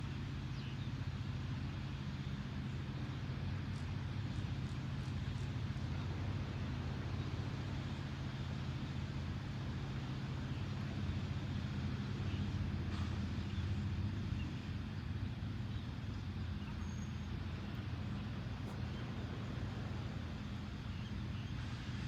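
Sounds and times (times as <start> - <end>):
low seaside rumble: 0.0 - 22.0.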